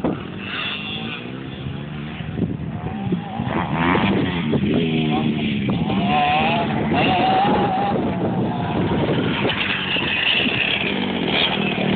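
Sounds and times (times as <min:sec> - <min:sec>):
motorbike engine revving: 0:00.0 - 0:11.9.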